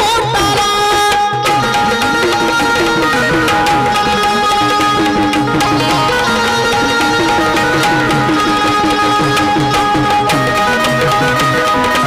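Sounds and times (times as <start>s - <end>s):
hand drum fast rhythm: 0.0s - 12.0s
long held melody notes: 1.5s - 12.0s.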